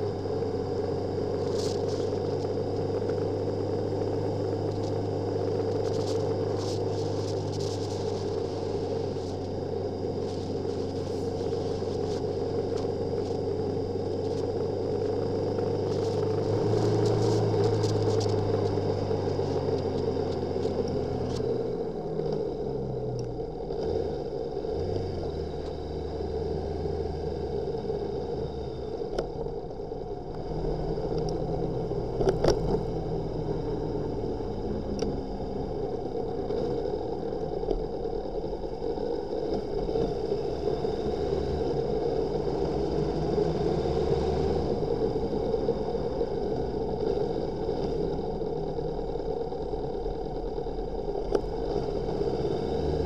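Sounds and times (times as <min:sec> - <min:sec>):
motorcycle engine droning: 0:00.0 - 0:53.0.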